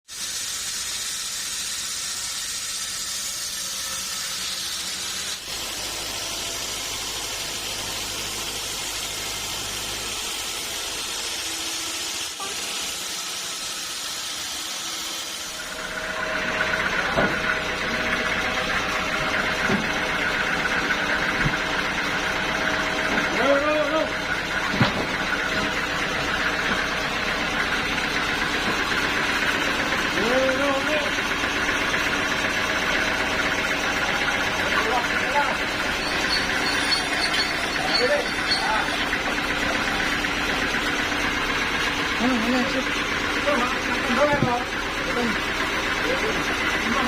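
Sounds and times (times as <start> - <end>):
sawmill saw hissing: 0.0 - 47.0.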